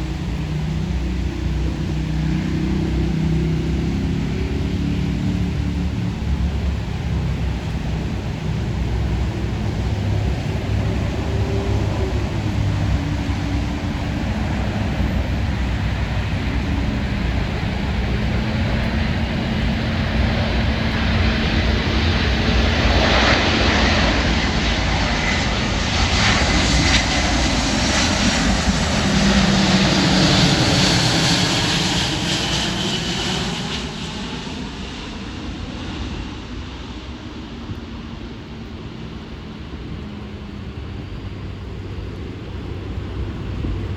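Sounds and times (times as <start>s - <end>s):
jet aircraft rumble: 0.0s - 43.9s.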